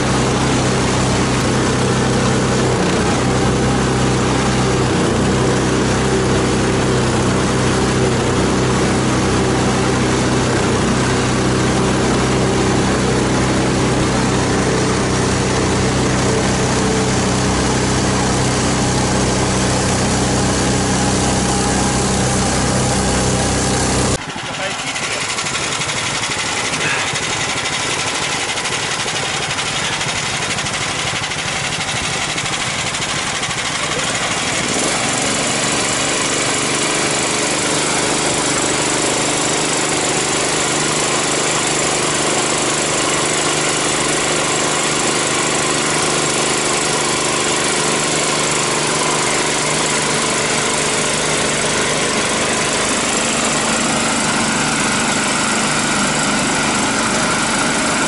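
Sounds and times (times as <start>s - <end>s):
all-terrain vehicle engines running: 0.0s - 58.0s.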